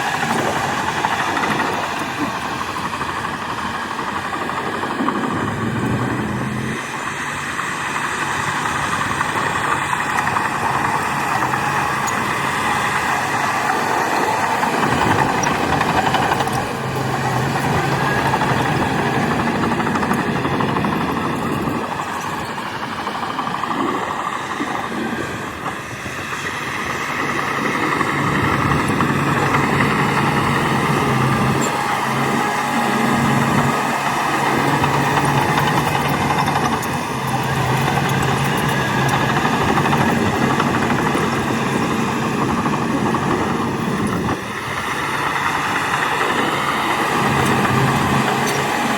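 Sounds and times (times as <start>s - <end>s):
bulldozer diesel engine: 0.0s - 48.9s.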